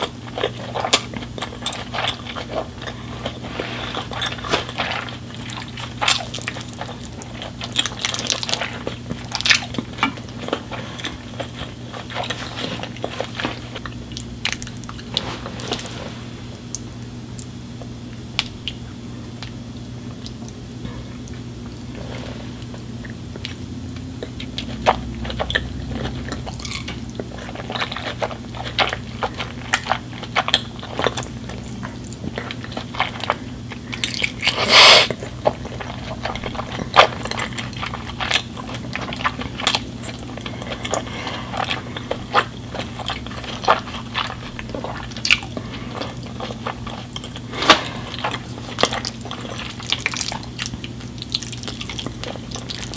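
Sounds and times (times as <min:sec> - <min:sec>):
chewing and crunching food: 0:00.0 - 0:52.9
steady low hum: 0:00.0 - 0:52.9.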